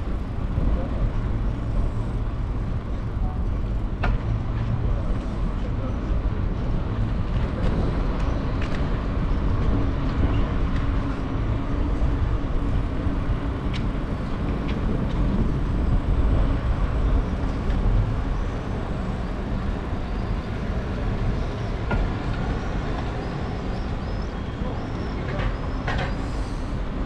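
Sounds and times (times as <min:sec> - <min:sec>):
bicycle tyres rolling on pavement: 0:00.0 - 0:26.8
wind buffeting microphone: 0:00.0 - 0:27.0.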